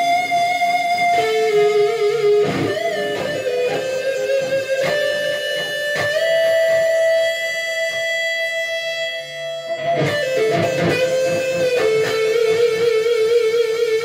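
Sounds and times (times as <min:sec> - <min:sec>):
electric guitar lead line: 0:00.0 - 0:14.0.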